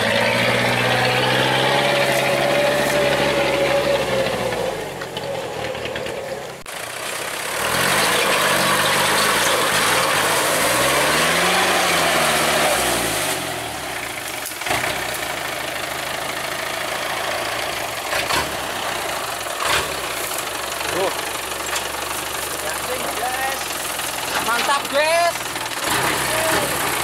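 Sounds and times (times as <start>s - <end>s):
truck engine idling and revving: 0.0s - 27.0s.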